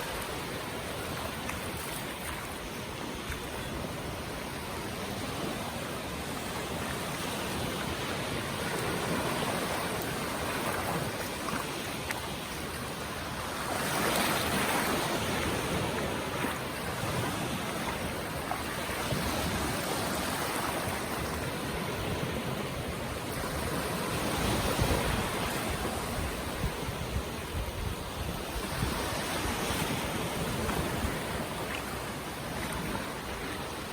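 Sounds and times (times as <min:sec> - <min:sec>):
ocean surf washing onto beach: 0:00.0 - 0:33.9.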